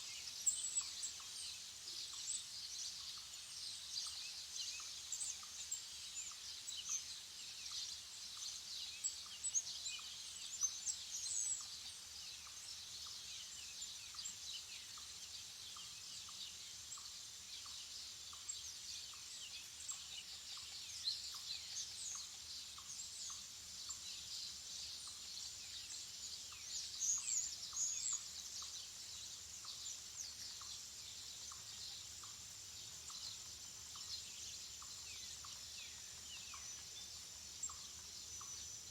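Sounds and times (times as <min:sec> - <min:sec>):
faint high hiss: 0:00.0 - 0:38.9
small birds chirping and twittering: 0:00.0 - 0:38.9.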